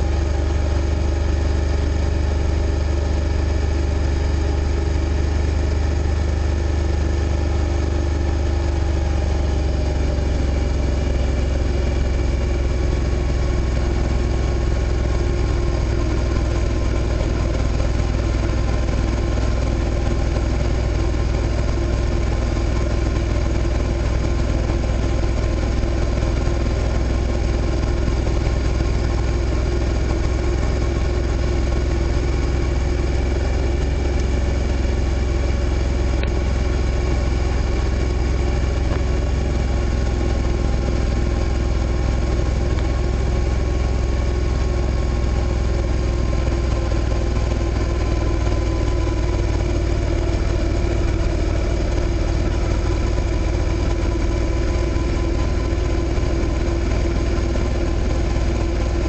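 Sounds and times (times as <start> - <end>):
motorcycle engine running steadily: 0.0 - 59.0.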